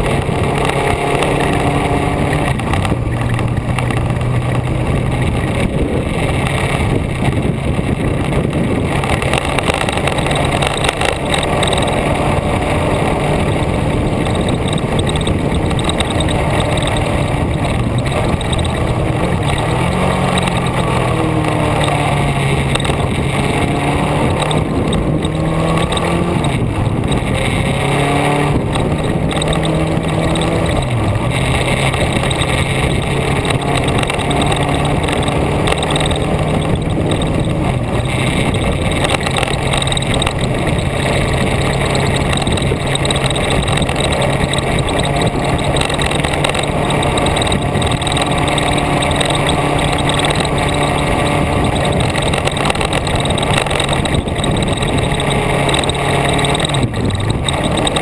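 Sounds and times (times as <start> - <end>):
road and wind noise: 0.0 - 58.0
vehicle engine running: 0.0 - 58.0.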